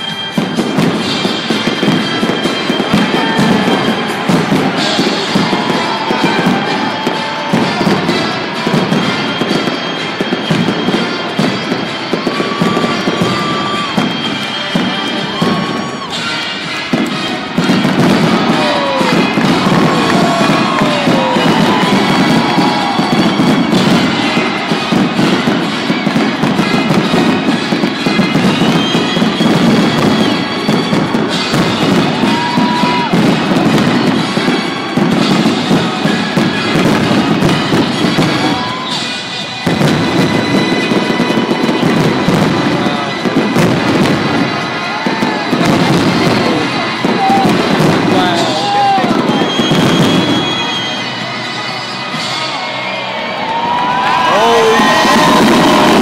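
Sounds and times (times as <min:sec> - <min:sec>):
firework shells bursting with crackling: 0:00.0 - 0:52.7, 0:53.4 - 0:56.0
music: 0:00.0 - 0:56.0.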